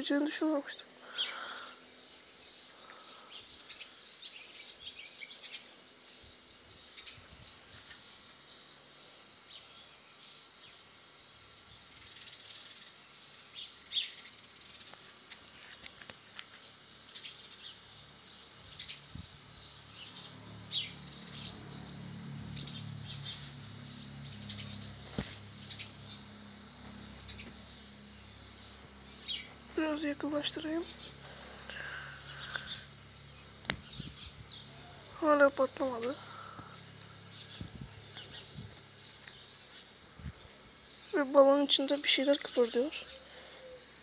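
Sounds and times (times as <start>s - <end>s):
low steady hum: 0.0s - 44.0s
small birds chirping: 0.0s - 44.0s.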